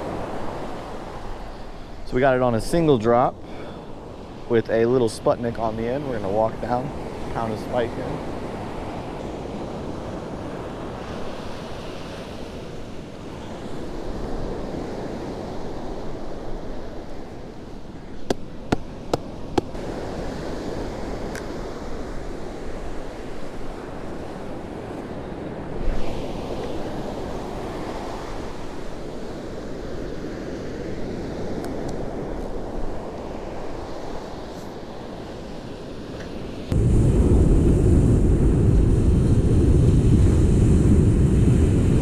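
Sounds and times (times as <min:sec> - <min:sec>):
surf washing on beach: 0:00.0 - 0:42.0
wind noise: 0:00.0 - 0:42.0.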